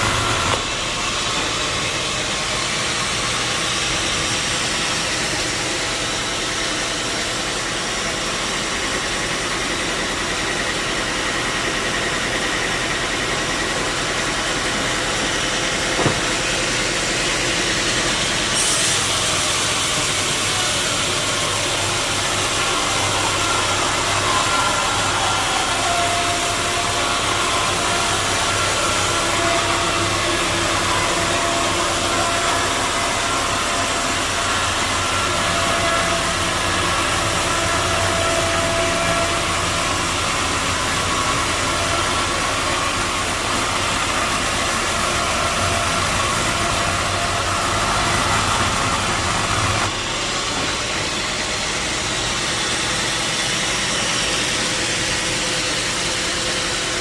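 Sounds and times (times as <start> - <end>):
sawmill saw machinery running: 0.0 - 57.0.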